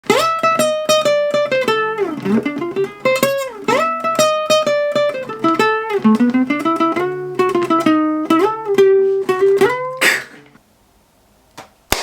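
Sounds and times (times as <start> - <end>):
plucked guitar melody: 0.0 - 10.6.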